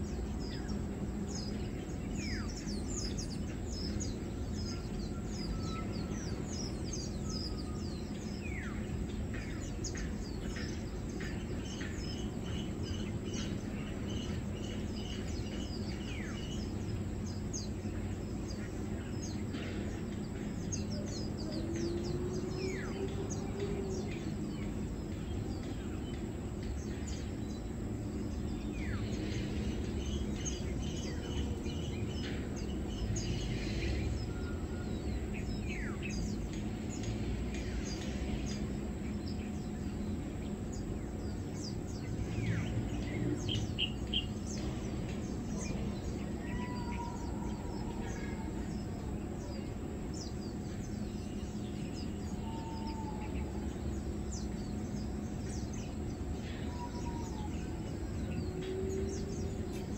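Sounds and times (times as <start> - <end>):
low background rumble: 0.0 - 59.9
small birds chirping: 0.0 - 59.9.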